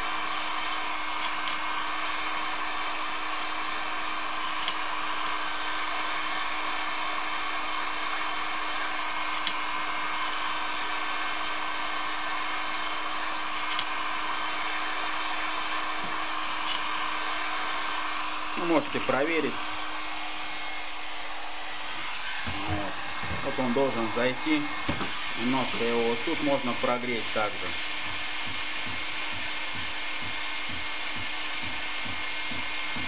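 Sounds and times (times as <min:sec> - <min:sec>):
heat gun blowing: 0:00.0 - 0:33.0.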